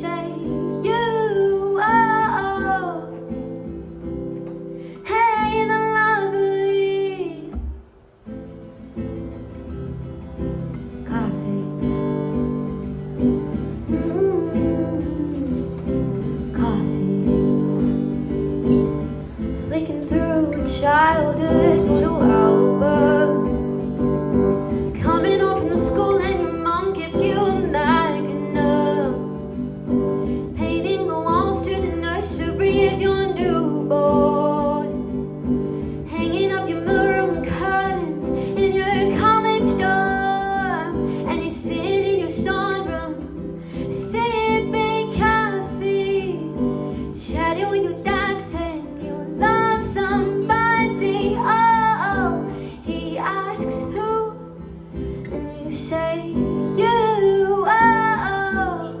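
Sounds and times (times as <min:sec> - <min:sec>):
woman singing: 0:00.0 - 0:07.8, 0:10.7 - 0:59.0
plucked guitar: 0:00.0 - 0:59.0.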